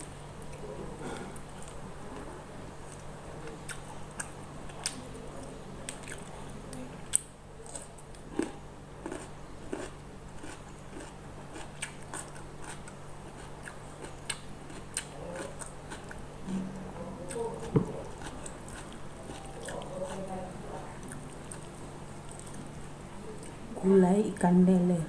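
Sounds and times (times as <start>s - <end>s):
low steady hum: 0.0s - 25.0s
food crunching: 0.4s - 16.3s, 17.3s - 23.6s.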